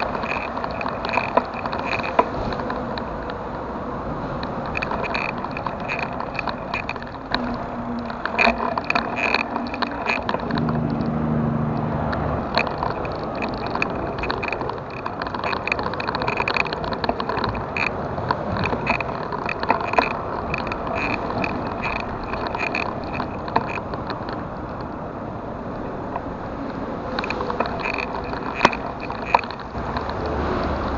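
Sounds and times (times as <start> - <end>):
bicycle rattles and clicks: 0.0 - 30.9
wind and tyre noise: 0.0 - 30.9.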